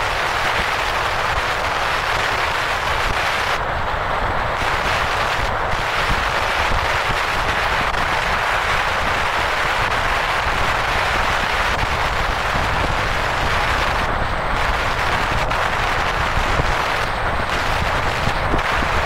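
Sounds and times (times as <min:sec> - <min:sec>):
car tyre noise on road: 0:00.0 - 0:19.0
wind rushing: 0:03.1 - 0:19.0.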